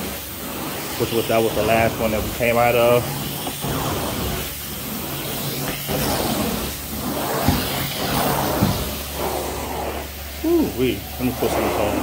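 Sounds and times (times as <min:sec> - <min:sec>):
cleaning machine hum and hiss: 0:00.0 - 0:12.0.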